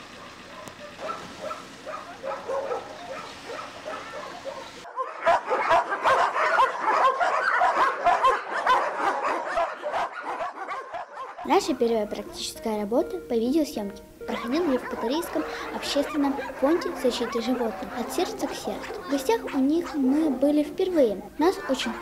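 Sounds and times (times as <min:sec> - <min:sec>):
dogs barking and yelping: 0:00.0 - 0:11.8, 0:14.3 - 0:22.0.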